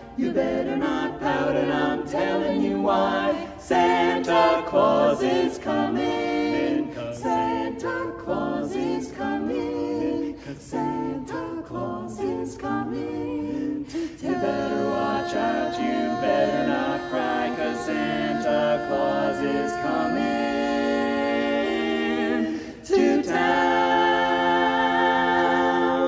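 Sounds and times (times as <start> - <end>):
quartet singing a cappella: 0.0 - 26.0.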